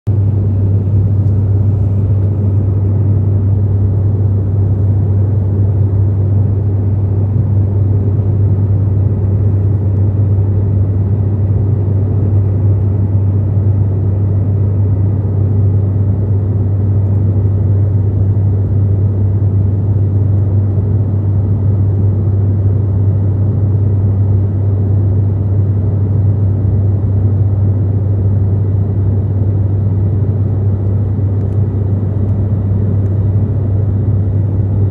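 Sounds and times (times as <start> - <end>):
aeroplane engines droning in cabin: 0.1 - 34.9.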